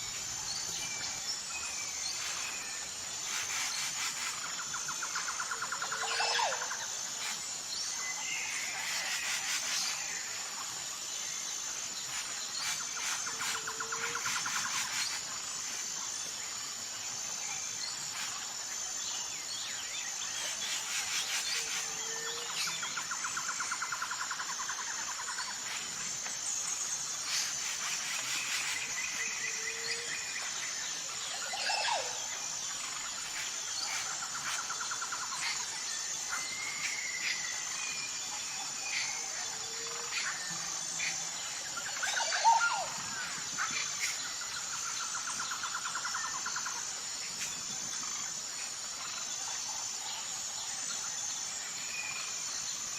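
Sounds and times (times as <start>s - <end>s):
high-pitched insect trill: 0.0s - 52.9s.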